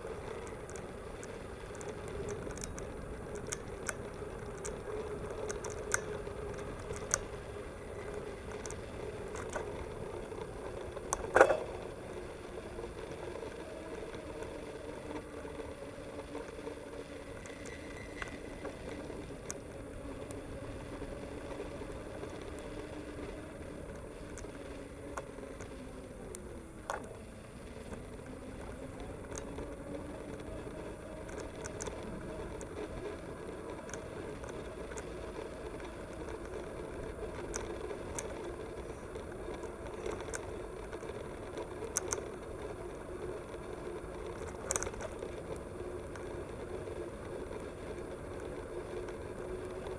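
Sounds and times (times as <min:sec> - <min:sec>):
bike clicks and rattles: 0:00.0 - 0:49.9
bike tyre hum on brick paving: 0:00.0 - 0:49.9.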